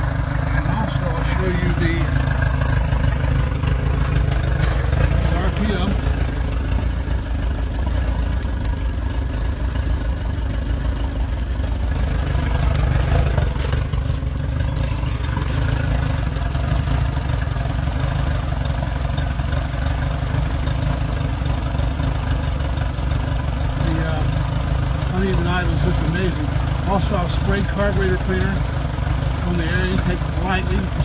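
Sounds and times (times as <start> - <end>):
outboard motor idling unevenly: 0.0 - 31.0.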